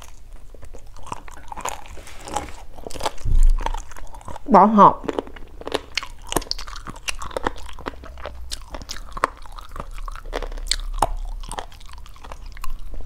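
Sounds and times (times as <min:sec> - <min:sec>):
person chewing and biting: 0:00.0 - 0:13.0.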